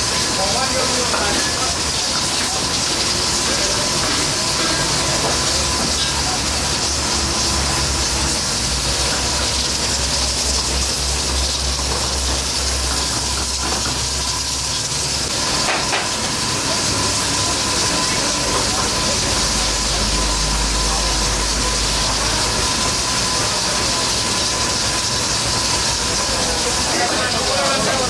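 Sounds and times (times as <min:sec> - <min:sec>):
gas burners hissing: 0:00.0 - 0:28.0.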